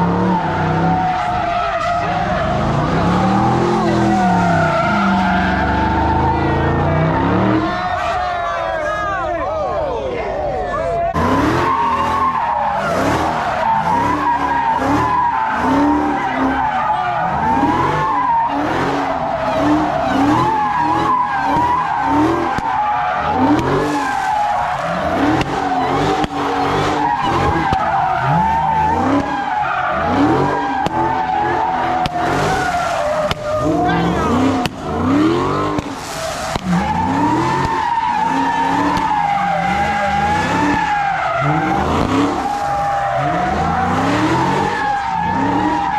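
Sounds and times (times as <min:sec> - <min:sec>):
car engine revving: 0:00.0 - 0:08.0, 0:11.1 - 0:45.9
tyre squeal: 0:00.0 - 0:08.2, 0:11.2 - 0:45.9.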